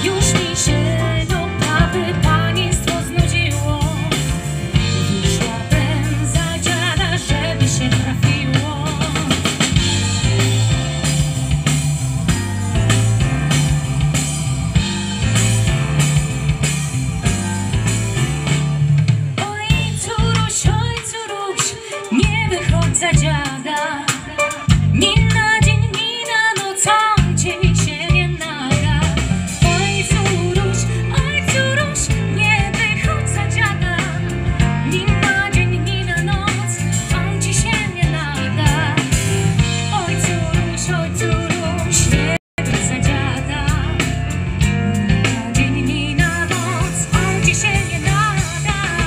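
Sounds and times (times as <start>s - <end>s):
woman singing: 0.0s - 10.2s, 19.4s - 49.0s
live band music over pa: 0.0s - 49.0s.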